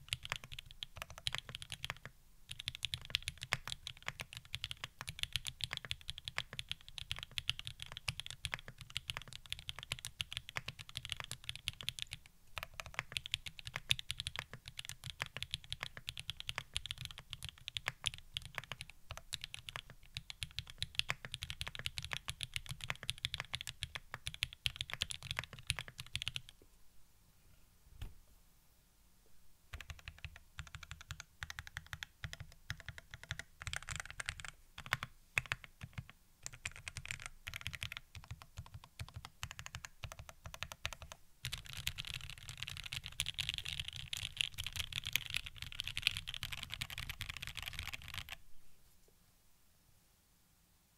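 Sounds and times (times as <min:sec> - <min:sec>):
mechanical keyboard typing: 0:00.0 - 0:26.6, 0:29.7 - 0:48.4.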